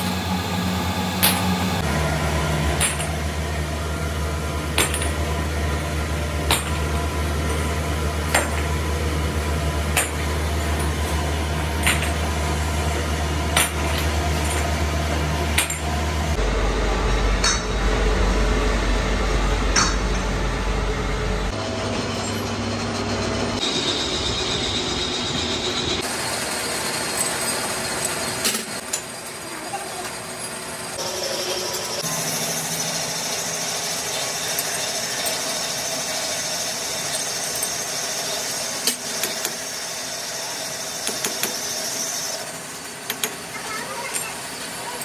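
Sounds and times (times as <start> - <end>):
workshop machinery hum: 0.0 - 45.0.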